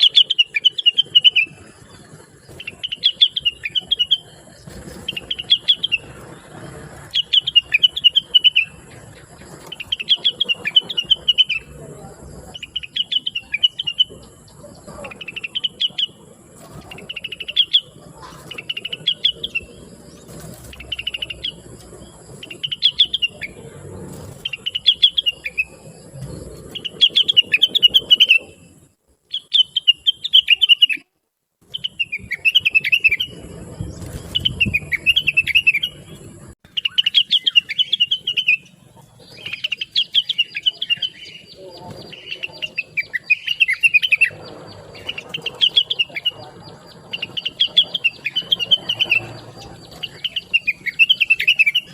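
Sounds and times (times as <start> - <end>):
bird singing in chattering phrases: 0.0 - 51.9.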